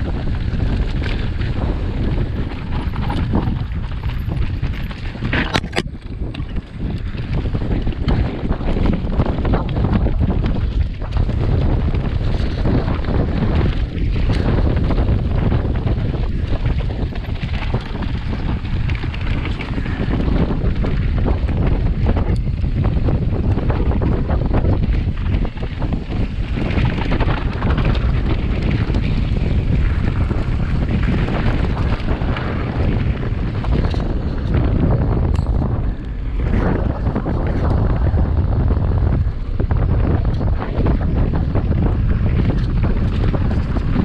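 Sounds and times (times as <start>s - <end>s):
bike rattling: 0.0s - 44.0s
tyres over loose rock and gravel: 0.0s - 44.0s
wind buffeting microphone: 0.0s - 44.0s.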